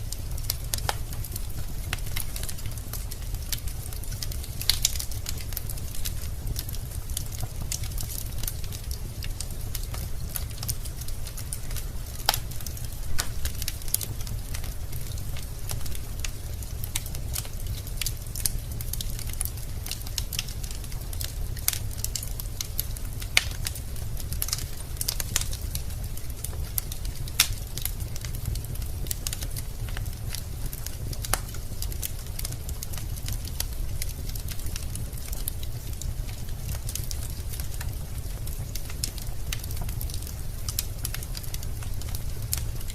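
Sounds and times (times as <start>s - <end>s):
logs crackling in fireplace: 0.0s - 42.9s
low steady rumble: 0.0s - 42.9s.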